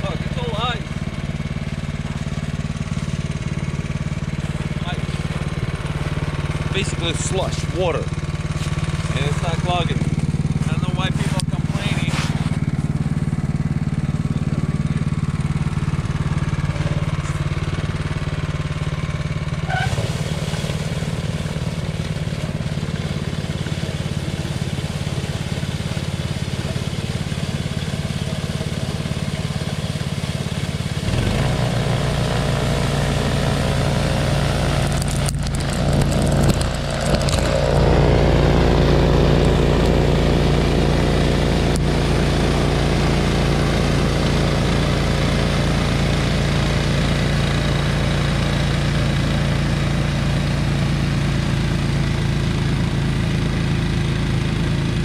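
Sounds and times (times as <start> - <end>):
snowblower engine running: 0.0 - 55.0
auger throwing wet snow: 2.0 - 14.6, 19.6 - 52.0.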